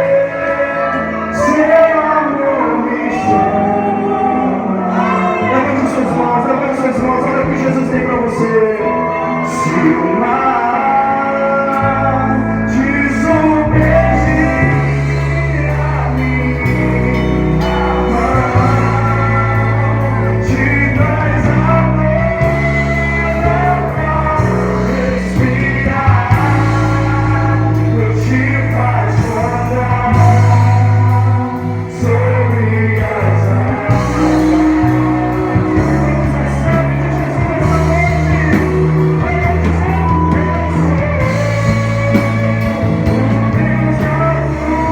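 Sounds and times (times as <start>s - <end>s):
worship band with singing: 0.0s - 44.9s.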